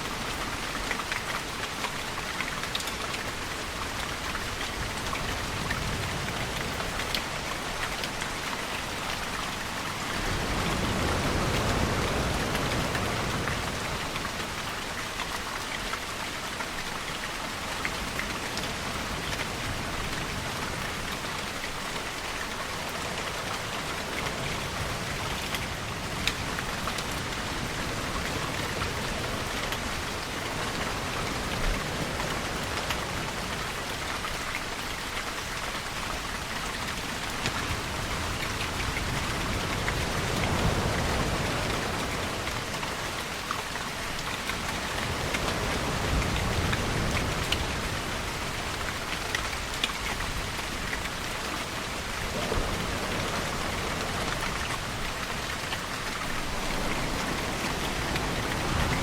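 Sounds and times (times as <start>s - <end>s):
sharp raindrops: 0.0s - 59.0s
steady rain falling: 0.0s - 59.0s.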